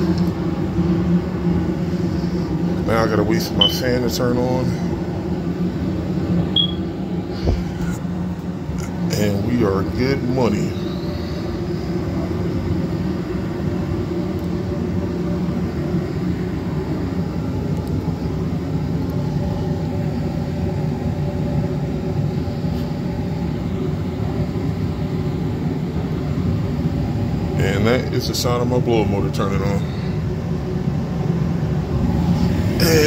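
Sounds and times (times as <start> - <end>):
furnace blower hum and air rush: 0.0 - 33.0.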